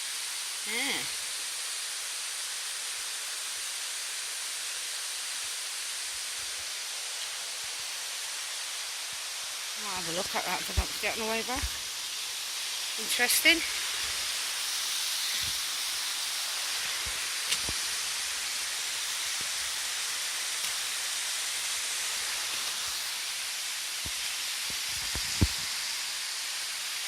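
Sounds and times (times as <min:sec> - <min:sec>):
flowing water hiss: 0:00.0 - 0:27.0.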